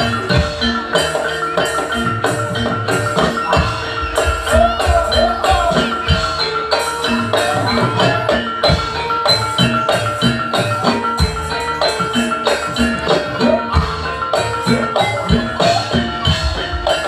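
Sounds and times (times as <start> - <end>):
drums: 0.0 - 17.0
gamelan music: 0.0 - 17.0.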